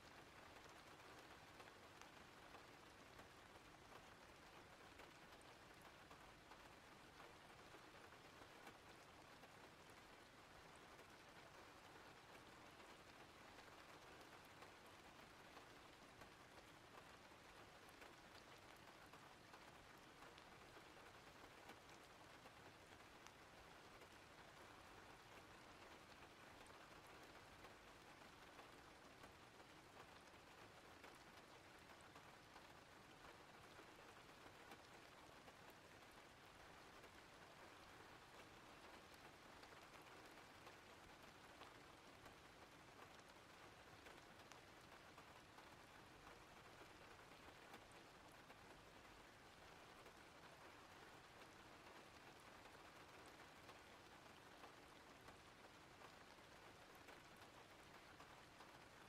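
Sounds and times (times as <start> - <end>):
faint steady rain: 0.0 - 59.0
soft raindrop ticks: 0.0 - 59.0.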